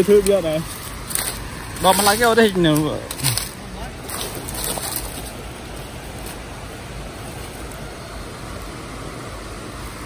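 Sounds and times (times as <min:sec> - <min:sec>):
fast-flowing river water: 0:00.4 - 0:10.0.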